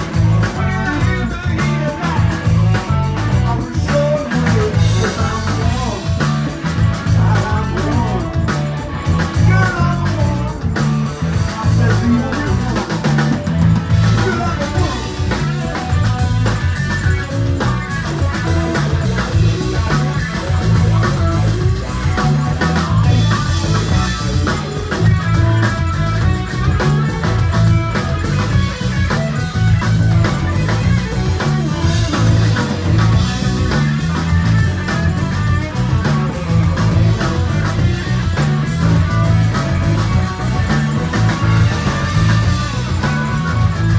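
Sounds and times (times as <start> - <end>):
bass guitar: 0.0 - 43.9
drums: 0.0 - 43.9
electric guitar: 0.0 - 43.9
organ: 0.0 - 43.9.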